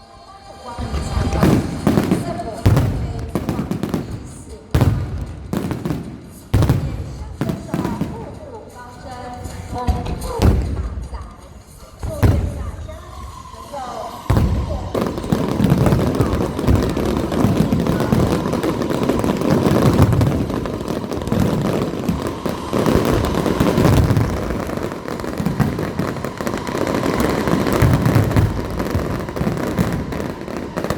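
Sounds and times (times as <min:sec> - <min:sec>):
fireworks bursting: 0:00.4 - 0:30.9
heavy fireworks booms: 0:00.7 - 0:30.9.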